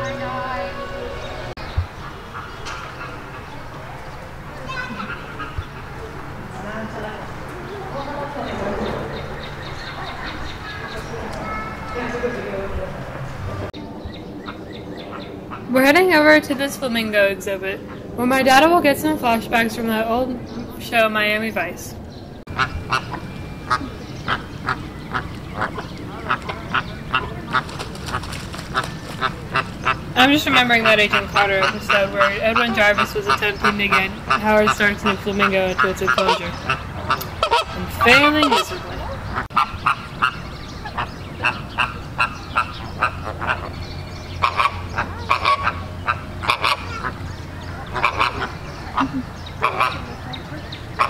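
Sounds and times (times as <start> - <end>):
flamingos honking: 0.0 - 21.8, 22.5 - 51.0.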